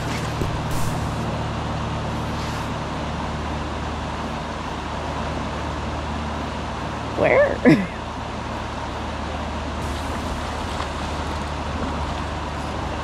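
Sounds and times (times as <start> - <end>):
constant noisy hiss: 0.0 - 13.0
low motor-like hum: 0.0 - 13.0.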